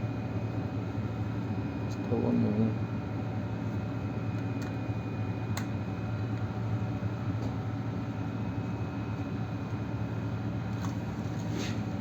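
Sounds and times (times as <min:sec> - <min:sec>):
low mechanical hum with hiss: 0:00.0 - 0:12.0.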